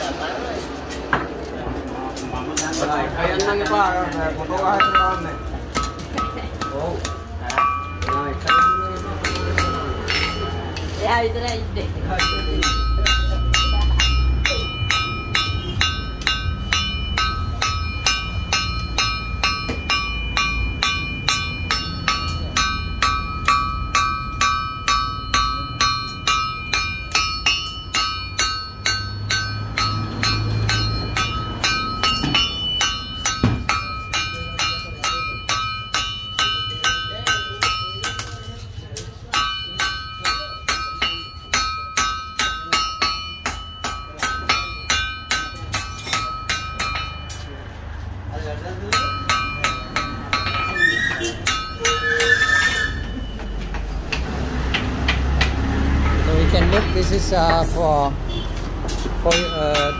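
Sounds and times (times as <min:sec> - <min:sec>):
hammer ringing on anvil: 0:02.2 - 0:47.8, 0:48.6 - 0:53.9, 0:59.2 - 0:59.9.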